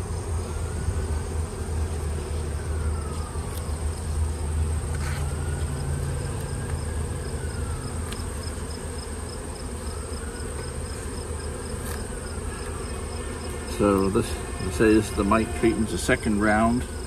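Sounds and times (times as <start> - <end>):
bees buzzing: 0.0 - 17.0
high insect trill: 0.0 - 17.0.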